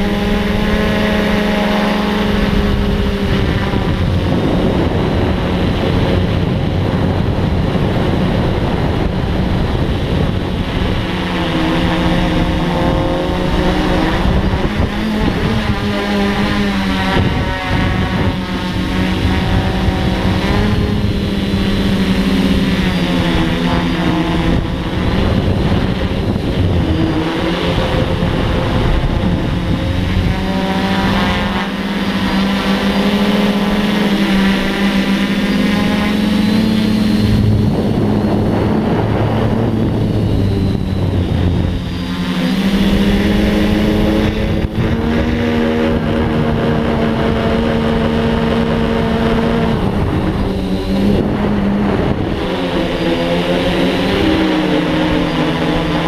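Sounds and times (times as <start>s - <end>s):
drone motors buzzing: 0.0s - 56.0s.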